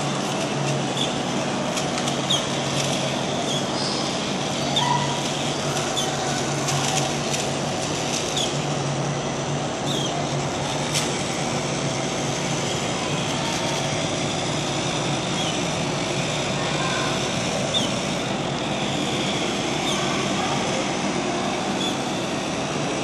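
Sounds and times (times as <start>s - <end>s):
small motors whirring: 0.0s - 23.0s.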